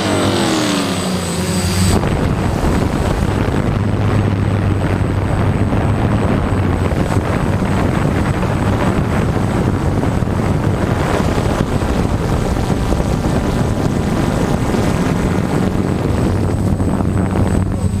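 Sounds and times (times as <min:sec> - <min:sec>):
drone motors and propellers: 0:00.0 - 0:18.0
wind on microphone: 0:00.0 - 0:18.0.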